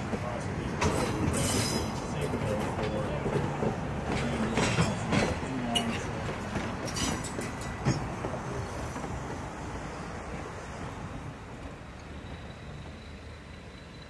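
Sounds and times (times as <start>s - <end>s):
passing train rumble: 0.0s - 14.0s
train wheels clicking over rail joints: 0.0s - 14.0s.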